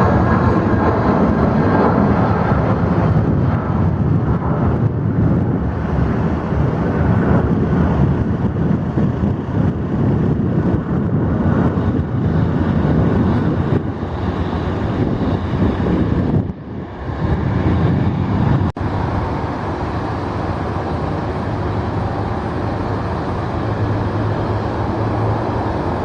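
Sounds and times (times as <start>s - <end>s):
jet engine rumble: 0.0s - 26.0s
wind buffeting microphone: 0.0s - 26.0s.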